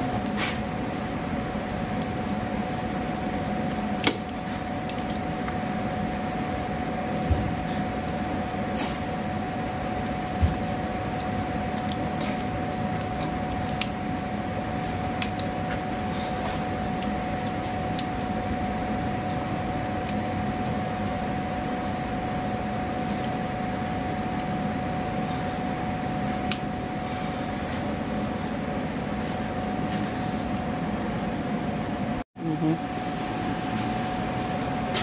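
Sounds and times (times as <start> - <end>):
fan humming: 0.0 - 35.0.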